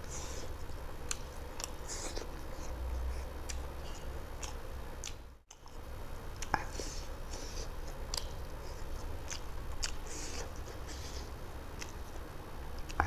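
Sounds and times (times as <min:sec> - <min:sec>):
close chewing of food: 0:00.0 - 0:13.0.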